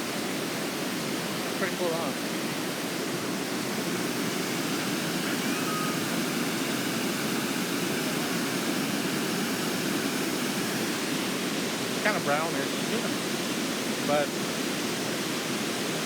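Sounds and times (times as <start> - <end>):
river water rushing over dam: 0.0 - 16.0.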